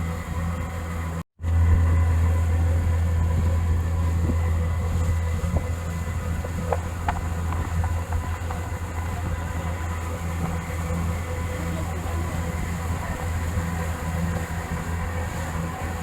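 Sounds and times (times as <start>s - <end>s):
boat motor droning: 0.0s - 16.0s.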